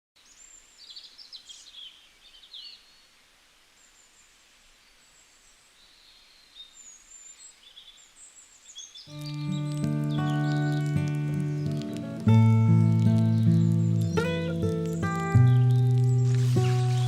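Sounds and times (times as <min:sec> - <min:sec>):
small birds chirping: 0:00.2 - 0:17.0
soft outdoor hiss: 0:00.2 - 0:17.0.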